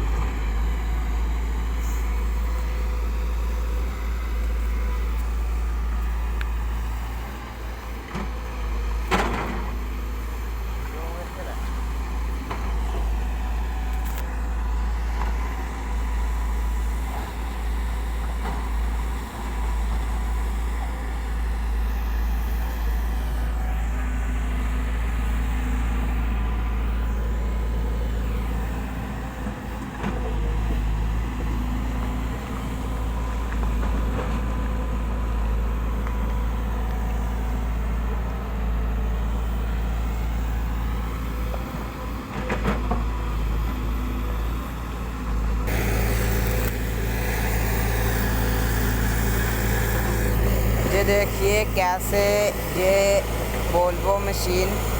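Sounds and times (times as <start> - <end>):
engine running with deep rumble: 0.0 - 54.9.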